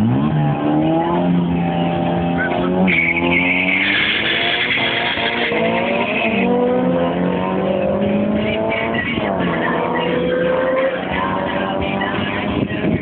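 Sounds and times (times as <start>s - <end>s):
car engines at full throttle: 0.0s - 13.0s.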